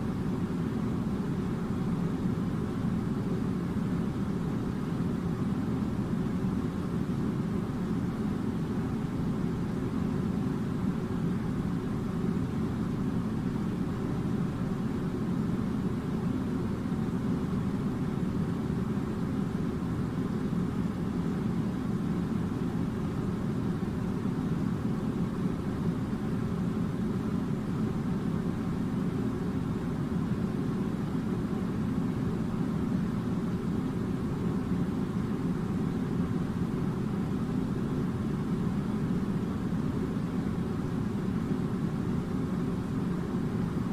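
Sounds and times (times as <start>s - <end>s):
air conditioner running: 0.0s - 43.9s.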